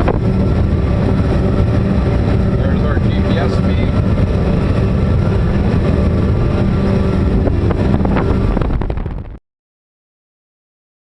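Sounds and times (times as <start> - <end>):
outboard motors running: 0.0 - 9.4
wind on microphone: 0.0 - 9.4.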